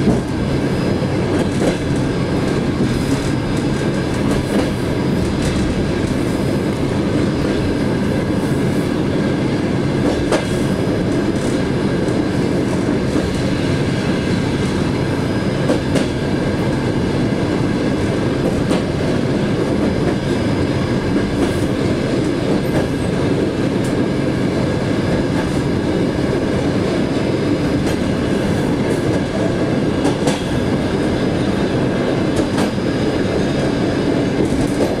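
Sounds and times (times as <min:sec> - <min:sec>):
train car rumble and rattle: 0:00.0 - 0:35.0.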